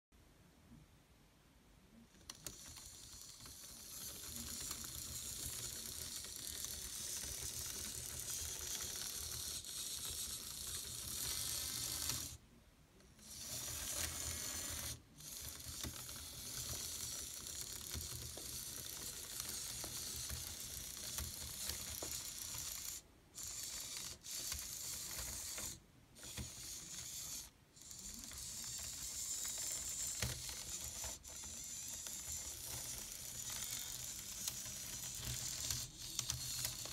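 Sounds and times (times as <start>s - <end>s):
plastic tracks rattling: 2.2s - 12.4s, 13.2s - 36.9s
small motors whirring: 2.2s - 12.4s, 13.2s - 36.9s.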